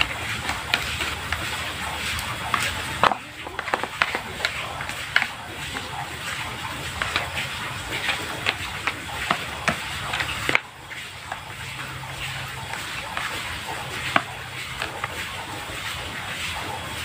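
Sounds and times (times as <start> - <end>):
hands squelching sticky dough: 0.0 - 17.0.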